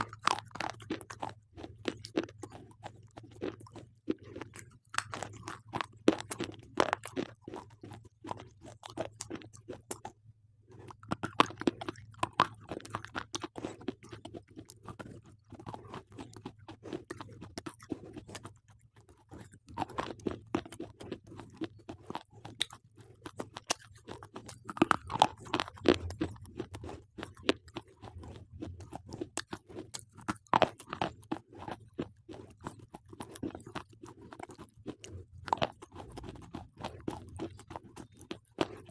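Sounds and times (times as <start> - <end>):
person crunching slate pencils: 0.0 - 10.1, 10.7 - 38.9.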